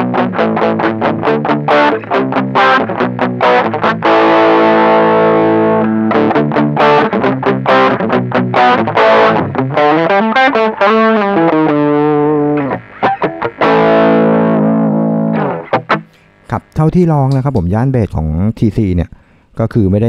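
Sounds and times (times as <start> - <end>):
distorted electric guitar: 0.0 - 17.9.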